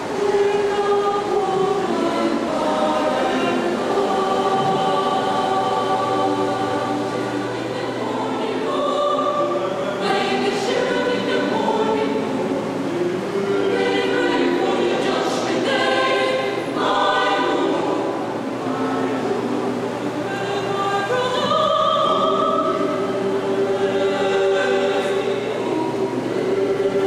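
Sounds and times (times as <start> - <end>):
mixed choir singing: 0.0 - 27.0.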